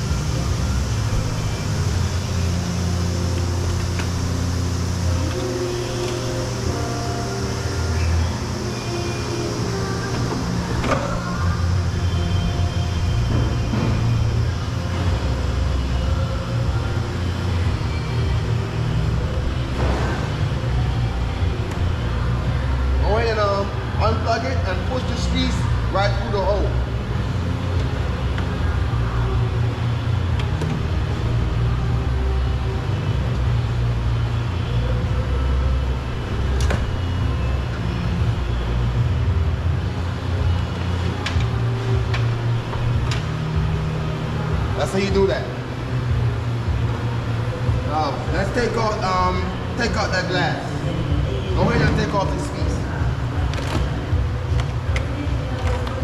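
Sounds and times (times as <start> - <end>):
low mechanical rumble: 0.0 - 56.0
steady low hum: 0.0 - 56.0.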